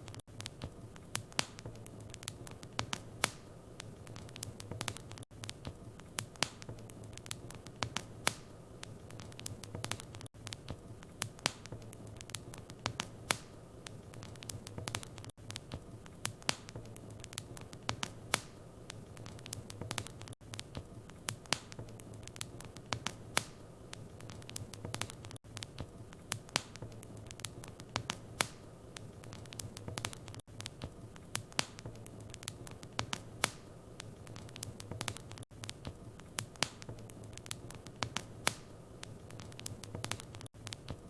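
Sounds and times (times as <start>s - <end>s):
fire snapping and popping: 0.0s - 41.0s
wood fire crackling: 0.0s - 41.0s.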